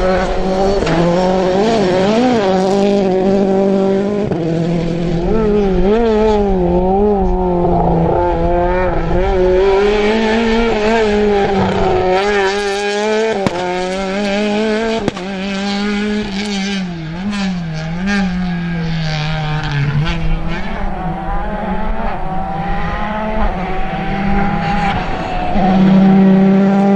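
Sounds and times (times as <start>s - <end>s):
rally car engine at high revs: 0.0s - 26.9s.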